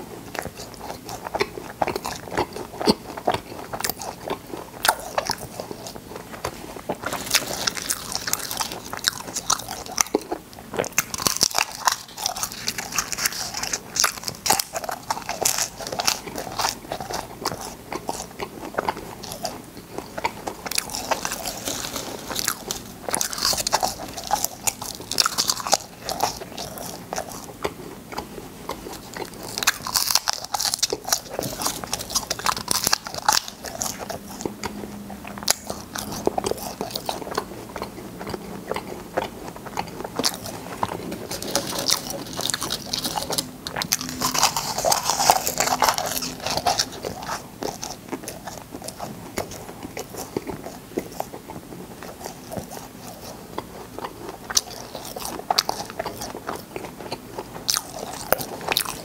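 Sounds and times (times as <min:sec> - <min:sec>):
chewing: 0:00.0 - 0:59.0
crunching hard candy: 0:00.0 - 0:59.0.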